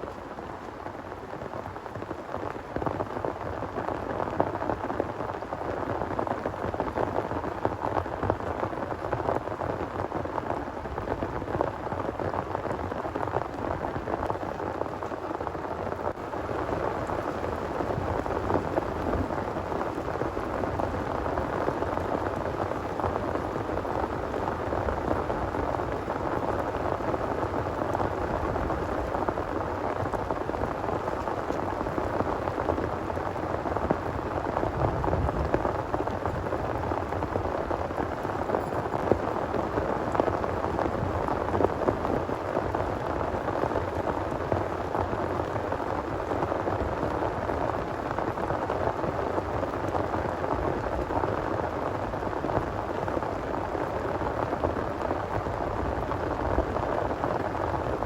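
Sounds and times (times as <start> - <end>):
heavy rain pouring: 0.1 - 58.0.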